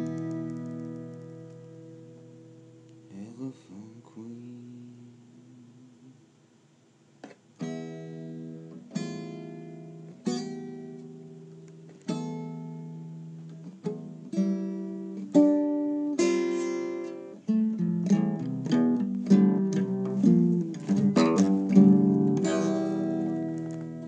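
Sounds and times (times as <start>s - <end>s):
acoustic guitar strumming chords: 0.0s - 6.2s, 7.2s - 24.0s.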